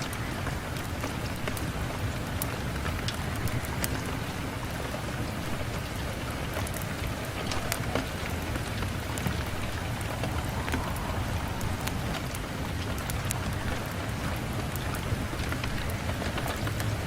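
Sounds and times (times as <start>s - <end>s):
rain falling on a window: 0.0s - 17.0s
raindrops ticking: 0.0s - 17.0s.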